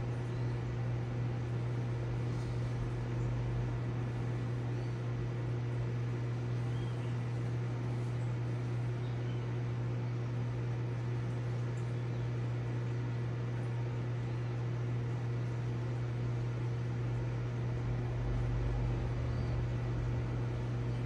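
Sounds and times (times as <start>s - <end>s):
aquarium pump humming: 0.0s - 21.0s.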